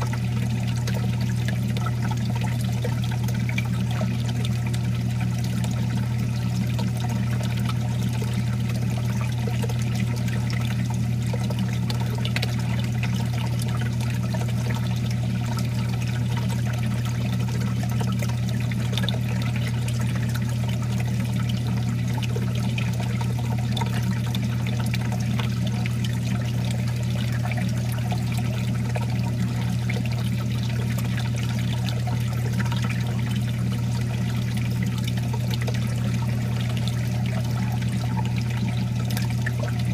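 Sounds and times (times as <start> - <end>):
steady low hum: 0.0 - 39.9
water trickling and pouring: 0.0 - 39.9.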